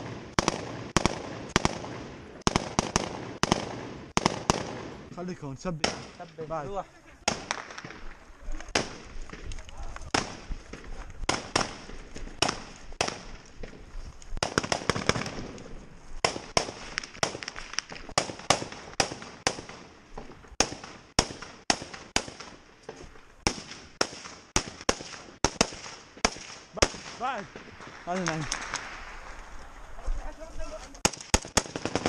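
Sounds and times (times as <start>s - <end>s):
rifle shots: 0.0s - 5.1s, 5.8s - 6.4s, 7.2s - 13.8s, 14.4s - 19.9s, 20.6s - 22.7s, 23.4s - 29.5s, 31.0s - 32.0s.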